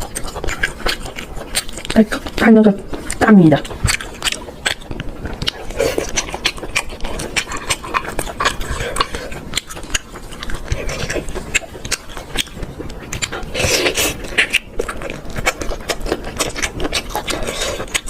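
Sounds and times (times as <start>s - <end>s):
soft mouth sounds: 0.0s - 18.0s.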